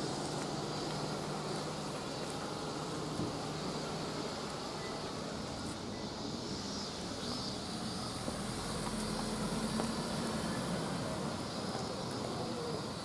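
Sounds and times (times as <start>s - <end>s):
van engine humming: 0.0s - 13.0s.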